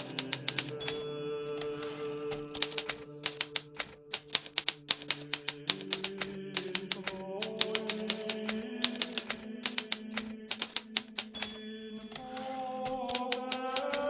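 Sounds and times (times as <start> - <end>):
typewriter keys striking: 0.0 - 14.0.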